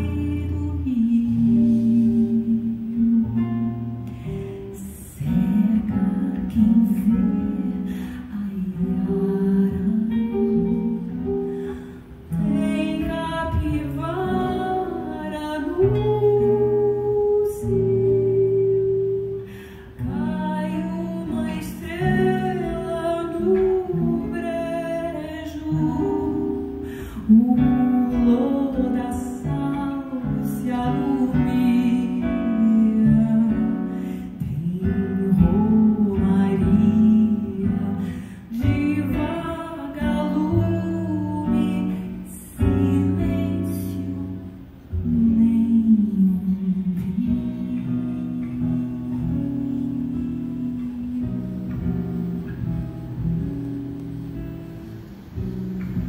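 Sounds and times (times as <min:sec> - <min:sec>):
plucked acoustic guitar: 0:00.0 - 0:56.0
woman singing slow song: 0:00.0 - 0:56.0.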